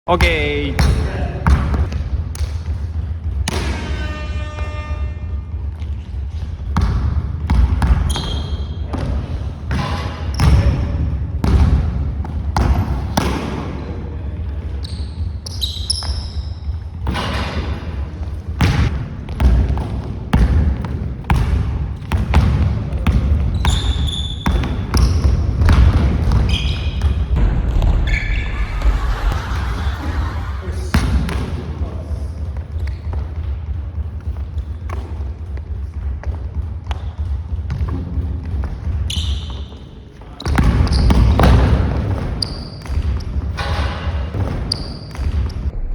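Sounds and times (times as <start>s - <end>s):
basketball bouncing on court: 0.1s - 28.5s, 30.9s - 45.8s
sneakers squeaking: 0.2s - 45.8s.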